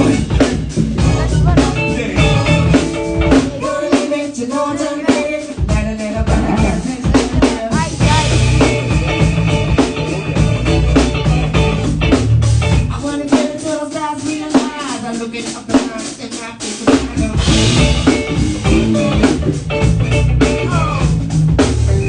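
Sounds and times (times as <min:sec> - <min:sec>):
drum kit steady beat: 0:00.0 - 0:22.0
live band music: 0:00.0 - 0:22.0.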